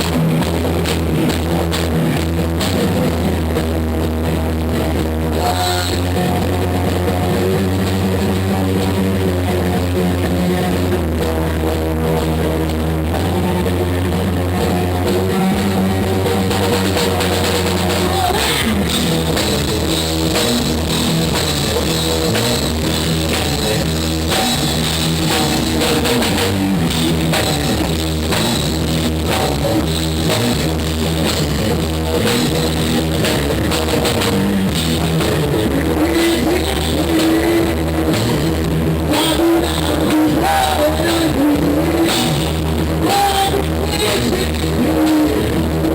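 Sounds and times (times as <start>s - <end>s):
drum kit: 0.0s - 45.9s
rock band playing: 0.0s - 45.9s.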